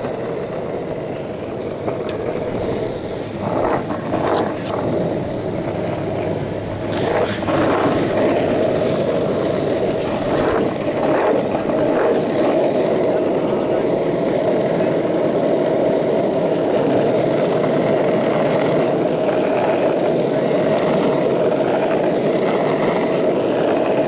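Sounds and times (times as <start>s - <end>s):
skateboard wheels rolling on asphalt: 0.0s - 24.0s.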